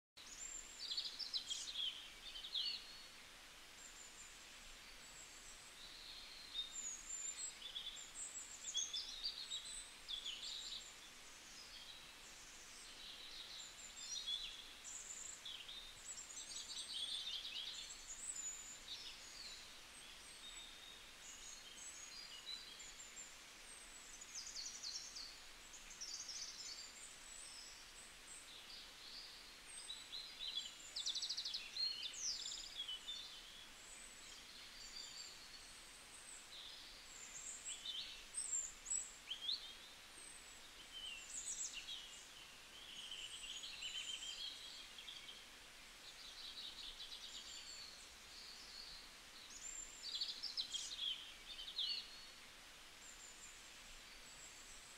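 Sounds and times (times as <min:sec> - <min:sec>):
faint steady hiss: 0:00.2 - 0:54.9
songbirds chirping and trilling: 0:00.2 - 0:54.9.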